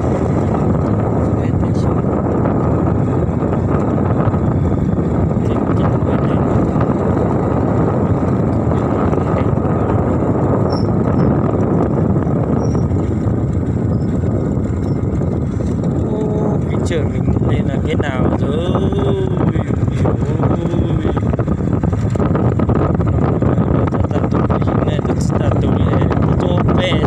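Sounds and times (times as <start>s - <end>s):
vehicle rumbling in motion: 0.0s - 27.0s.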